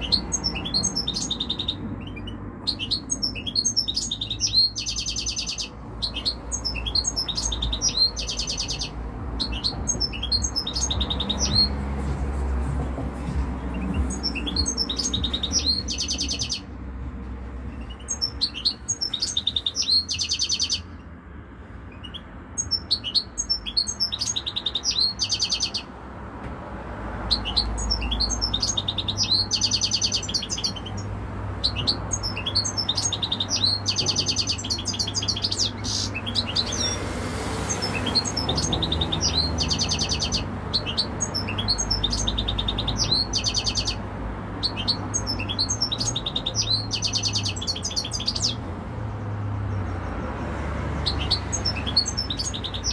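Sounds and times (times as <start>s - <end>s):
goldfinch singing: 0.0s - 12.2s, 13.2s - 16.7s, 17.7s - 21.0s, 21.9s - 25.9s, 27.3s - 48.7s, 51.0s - 52.9s.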